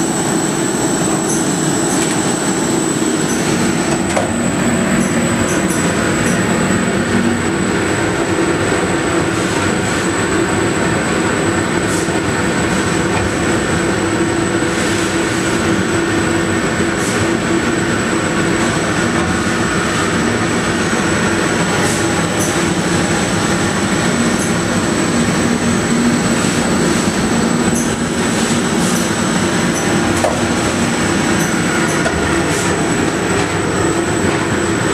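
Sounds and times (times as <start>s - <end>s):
rush of air and machine drone: 0.0s - 34.9s.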